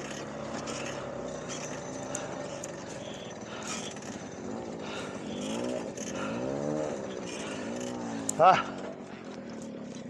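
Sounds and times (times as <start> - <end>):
two-stroke moped engine revving: 0.0 - 10.0.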